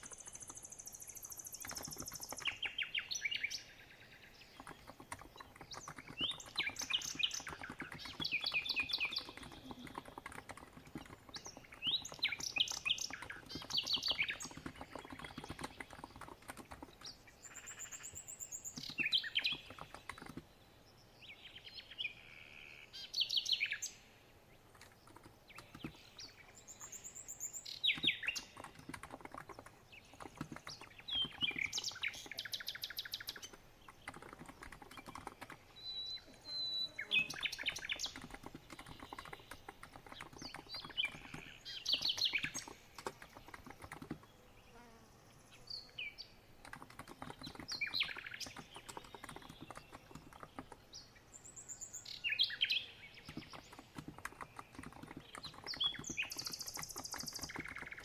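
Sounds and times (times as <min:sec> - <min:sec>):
soft keyboard typing: 0:00.0 - 0:02.7, 0:04.5 - 0:20.6, 0:24.7 - 0:44.4, 0:46.6 - 0:51.0, 0:53.2 - 0:58.0
birds singing trilled phrases: 0:00.0 - 0:58.0.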